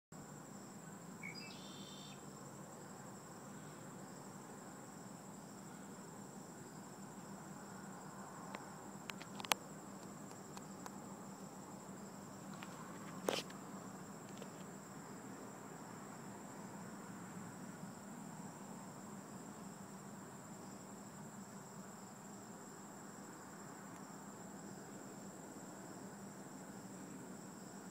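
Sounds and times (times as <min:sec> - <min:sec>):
high-pitched insect trill: 0:00.2 - 0:27.9.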